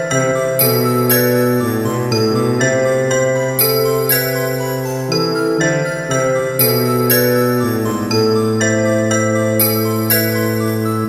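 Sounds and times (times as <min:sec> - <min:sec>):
slow bell-like chiming melody: 0:00.0 - 0:11.0.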